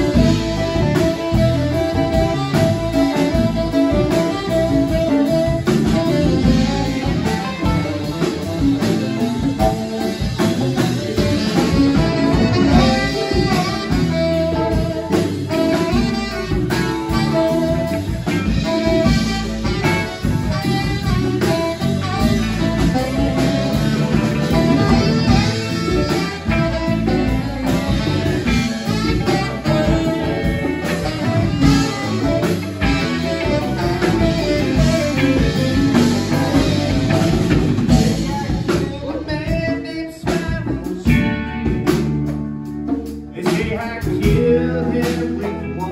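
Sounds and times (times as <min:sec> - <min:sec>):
live jazz-rock band: 0:00.0 - 0:45.9
saxophone: 0:00.0 - 0:45.9.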